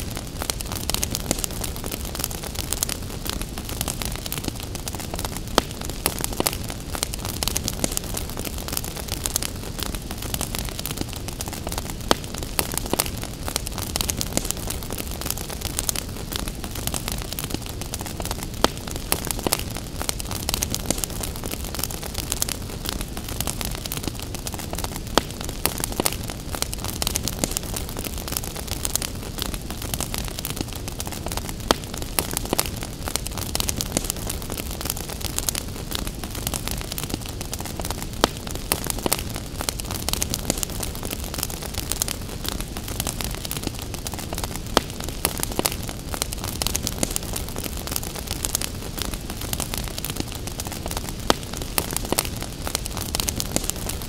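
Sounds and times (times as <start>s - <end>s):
crackling wood fire: 0.0s - 54.0s.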